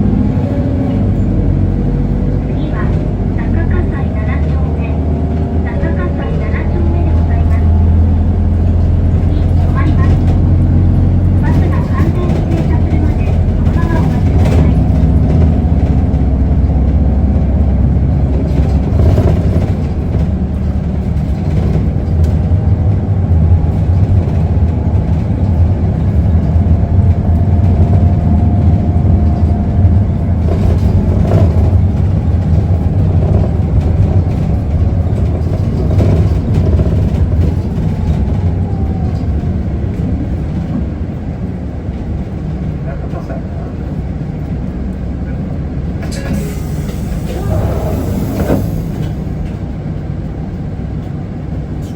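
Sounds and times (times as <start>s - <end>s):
bus diesel engine rumble: 0.0s - 51.9s.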